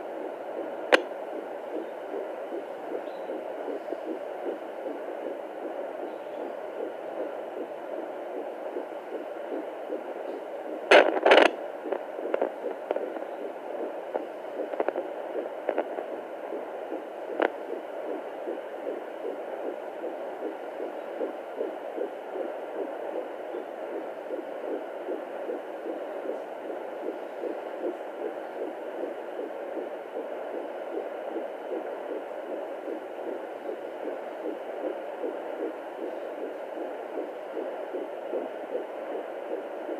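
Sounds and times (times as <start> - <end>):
fetal heartbeat whooshing pulse: 0.0 - 39.9
hum: 0.0 - 39.9.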